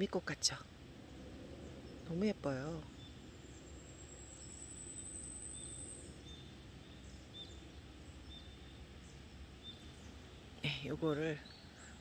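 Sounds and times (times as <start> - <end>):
faint bird chirps: 0.0 - 12.0
low background noise: 0.0 - 12.0.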